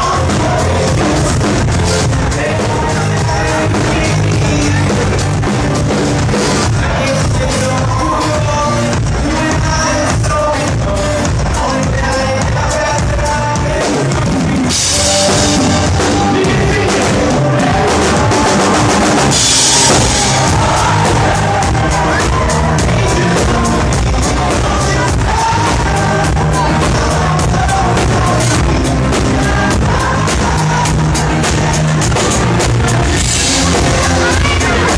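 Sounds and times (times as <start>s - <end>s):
live band playing loud music: 0.0s - 34.9s.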